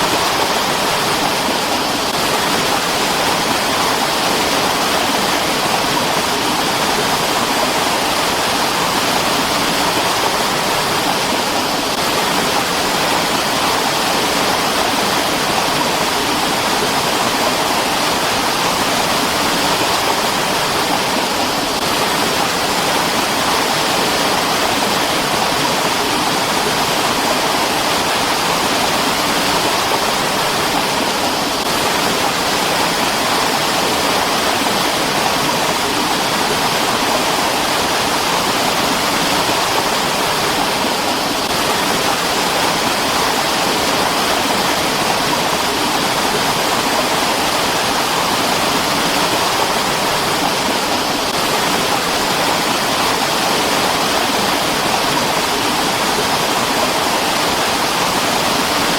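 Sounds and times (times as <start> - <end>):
mountain stream rushing: 0.0 - 58.9.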